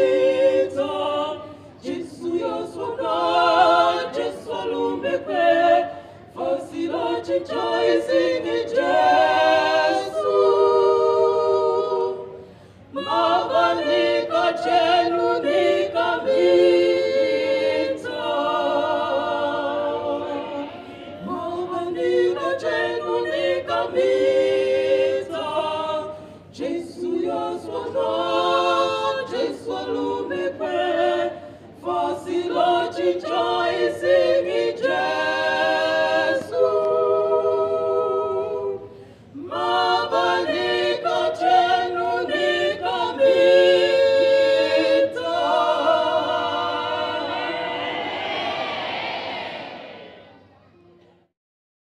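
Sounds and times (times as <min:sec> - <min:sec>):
women singing gospel unaccompanied: 0:00.0 - 0:50.1.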